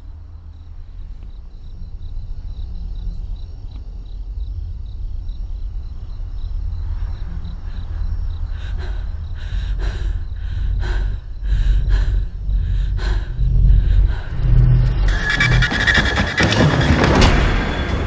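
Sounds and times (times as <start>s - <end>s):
crickets chirping: 0.0s - 18.0s
low horror drone: 0.0s - 18.0s.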